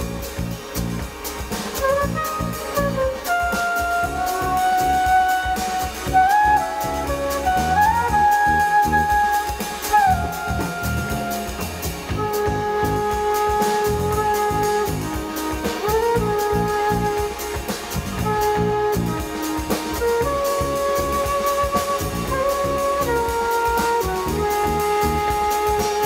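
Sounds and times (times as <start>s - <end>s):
flute long notes: 0.0s - 26.0s
jazz-funk band: 0.0s - 26.0s.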